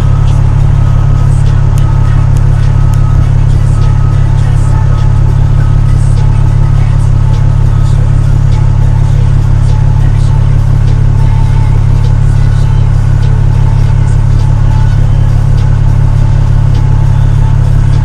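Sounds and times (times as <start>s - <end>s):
snowplow engine droning: 0.0s - 18.0s.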